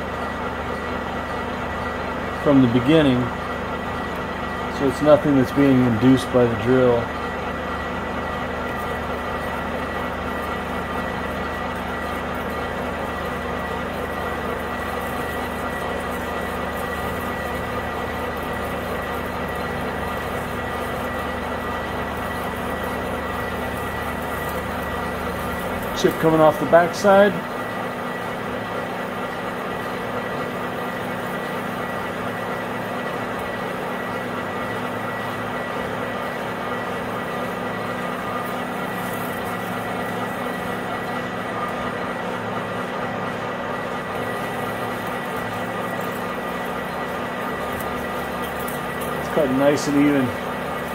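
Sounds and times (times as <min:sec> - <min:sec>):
metal lathe drilling aluminum: 0:00.1 - 0:50.9.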